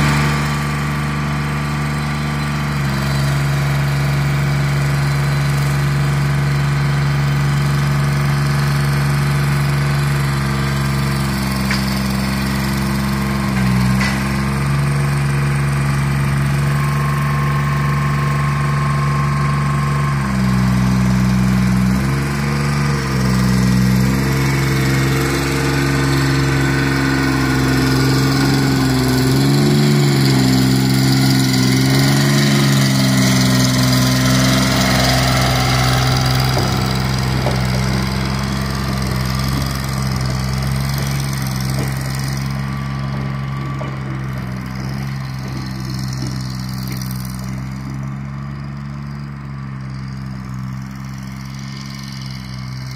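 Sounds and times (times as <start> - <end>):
crane engine running: 0.0 - 52.9.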